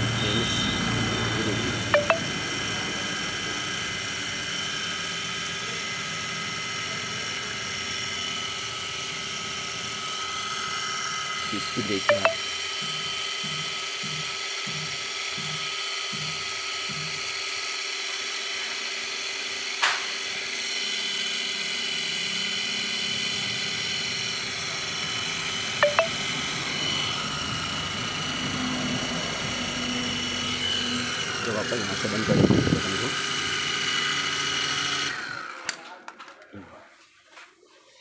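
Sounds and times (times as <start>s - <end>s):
toy helicopter motor whine: 0.0s - 35.9s.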